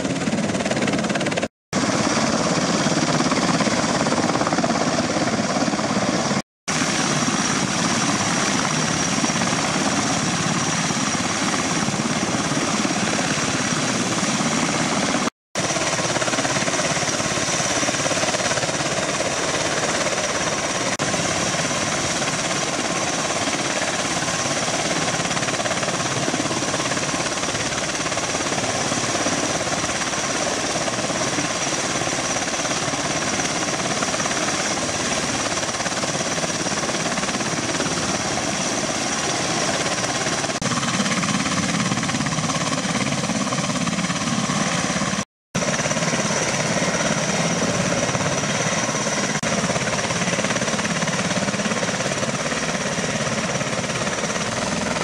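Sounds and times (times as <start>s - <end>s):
aircraft rotors running: 0.0s - 55.0s.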